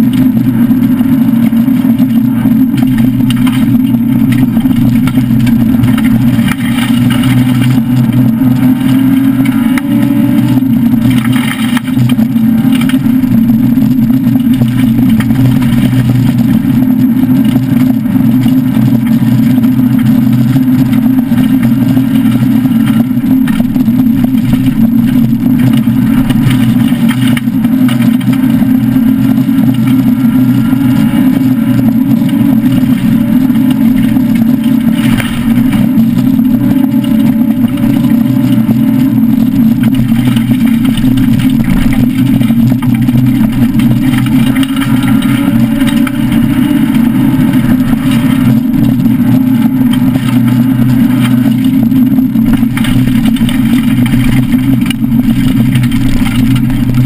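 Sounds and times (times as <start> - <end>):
rally car engine running hard: 0.0 - 57.0.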